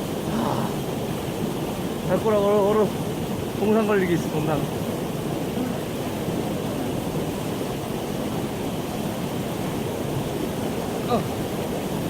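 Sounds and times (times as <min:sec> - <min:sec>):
rushing mountain stream: 0:00.0 - 0:12.0.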